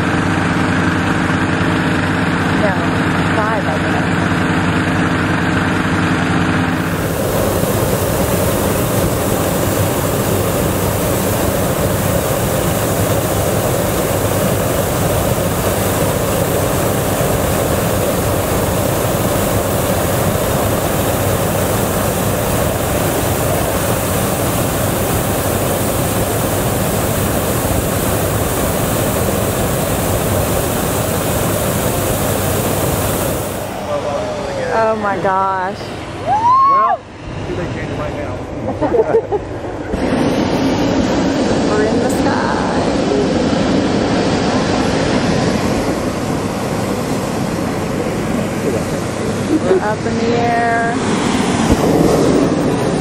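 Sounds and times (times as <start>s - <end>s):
propane burner rushing: 0.0s - 38.6s, 39.6s - 53.0s.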